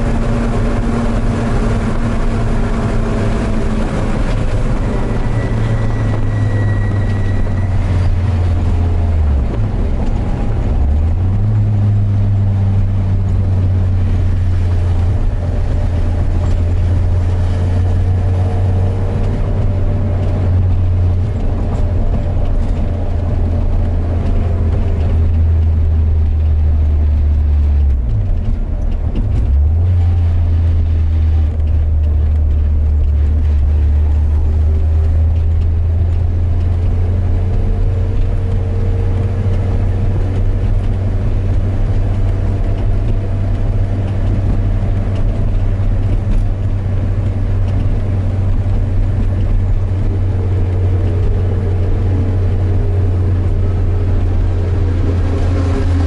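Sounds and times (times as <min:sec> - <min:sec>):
racing car engine: 0:00.0 - 0:56.0
wind and road noise: 0:00.0 - 0:56.0.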